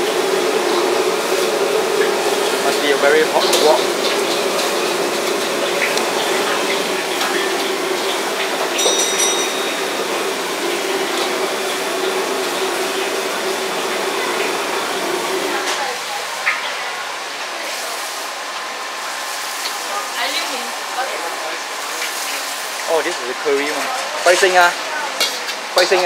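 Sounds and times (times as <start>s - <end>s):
gas burner roaring: 0.0s - 26.0s
sauce sizzling: 0.0s - 26.0s.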